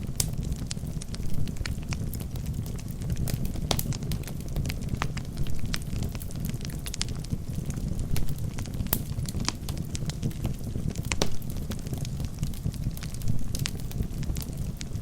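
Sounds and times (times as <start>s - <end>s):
flames rushing: 0.0s - 15.0s
logs crackling and popping: 0.0s - 15.0s.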